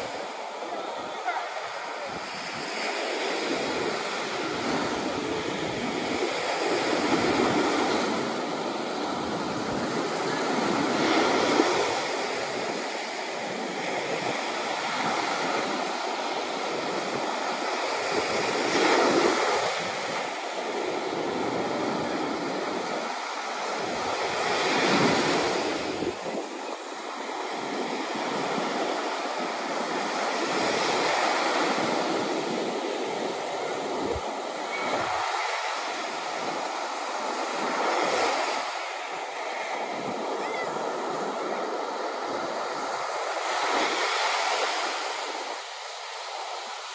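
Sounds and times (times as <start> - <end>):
small waves breaking on beach: 0.0 - 46.9.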